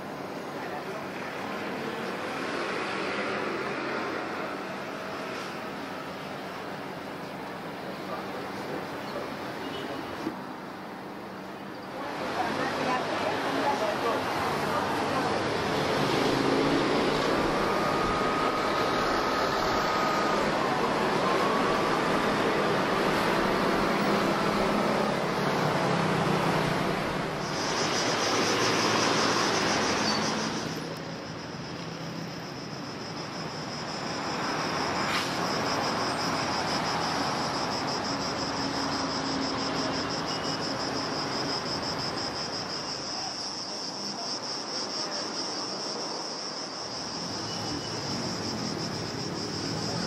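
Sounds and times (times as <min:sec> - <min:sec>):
city traffic noise: 0:00.0 - 0:50.0
insects chirring: 0:00.1 - 0:50.0.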